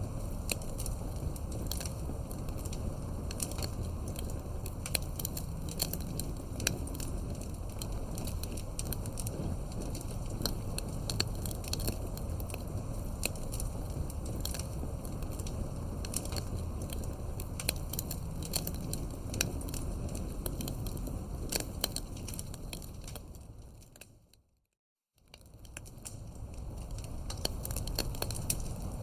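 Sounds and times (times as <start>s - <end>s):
rush of flames: 0.0s - 24.0s, 25.4s - 29.0s
fire crackling and popping: 0.0s - 24.4s, 25.2s - 29.0s.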